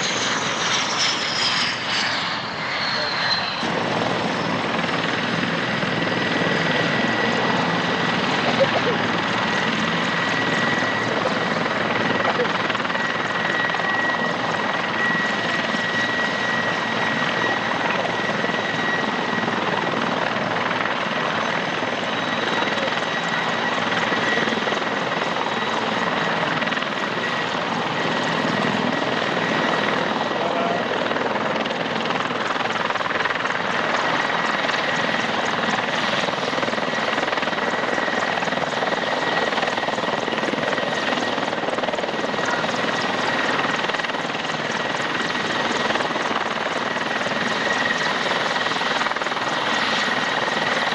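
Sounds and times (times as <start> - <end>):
helicopter turbine and rotor: 0.0 - 50.9.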